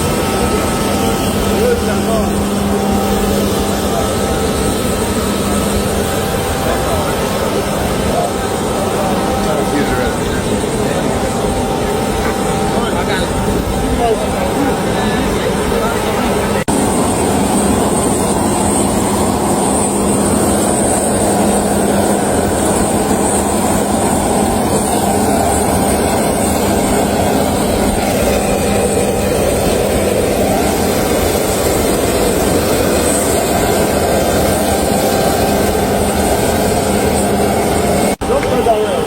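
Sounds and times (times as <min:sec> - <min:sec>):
jet cabin engine and air drone: 0:00.0 - 0:39.0
thin high whine: 0:00.0 - 0:39.0.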